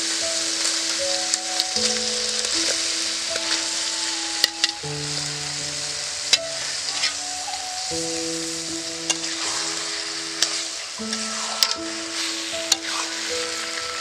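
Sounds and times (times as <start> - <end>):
liver sizzling in a pan: 0.0 - 14.0
soft background music: 0.0 - 14.0.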